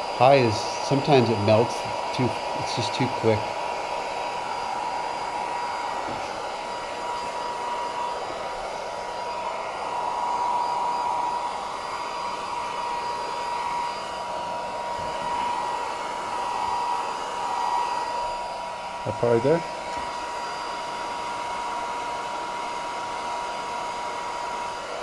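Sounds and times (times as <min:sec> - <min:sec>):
heat gun blowing hiss: 0:00.0 - 0:25.0.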